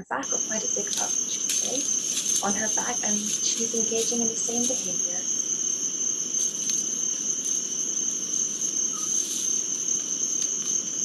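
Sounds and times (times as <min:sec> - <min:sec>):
lower insect trill: 0:00.2 - 0:11.0
night insects trilling: 0:00.2 - 0:11.0.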